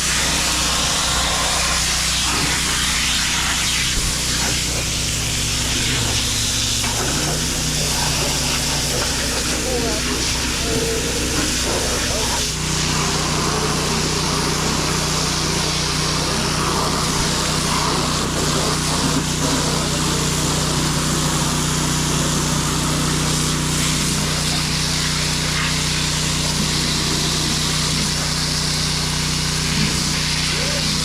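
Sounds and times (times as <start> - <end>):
pressure washer engine hum: 0.0 - 31.0
water spray hissing: 0.0 - 31.0.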